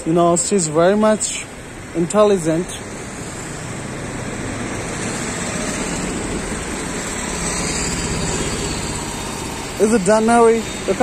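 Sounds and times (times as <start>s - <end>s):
vehicle engine running: 0.6s - 11.0s.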